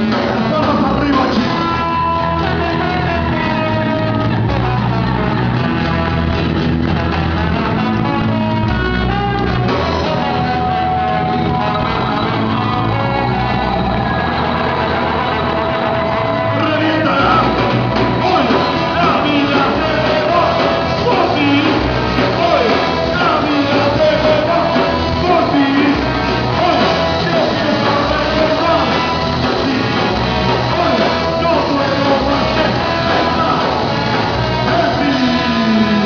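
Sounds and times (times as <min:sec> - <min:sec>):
live rock band playing: 0:00.0 - 0:36.0
person singing: 0:00.0 - 0:36.0.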